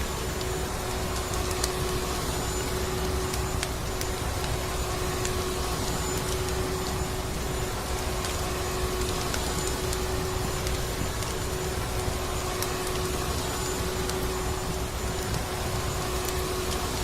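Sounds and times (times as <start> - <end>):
faint wood fire crackles: 0.0 - 17.0.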